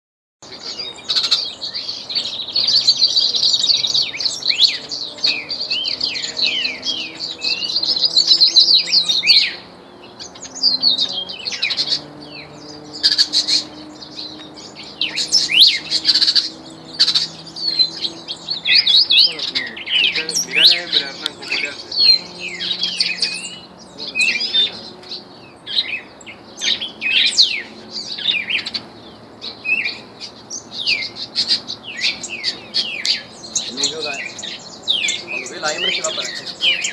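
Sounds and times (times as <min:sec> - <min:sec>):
songbirds chirping and warbling: 0:00.4 - 0:36.9.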